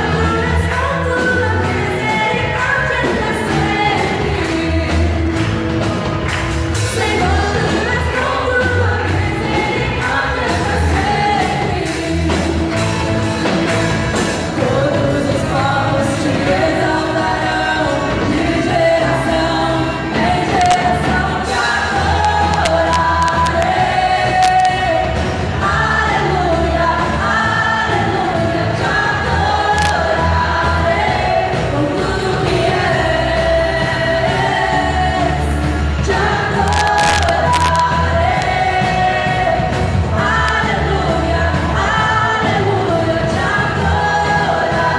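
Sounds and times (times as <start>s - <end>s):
band bass and drums: 0.0s - 44.9s
voices singing gospel song: 0.0s - 44.9s.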